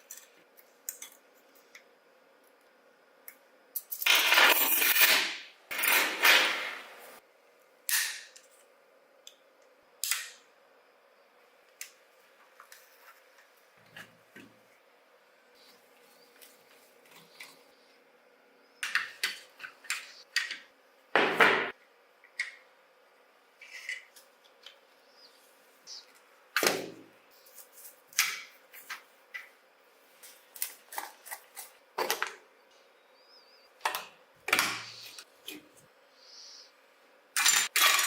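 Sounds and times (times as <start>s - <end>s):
faint steady hum: 6.8s - 38.0s.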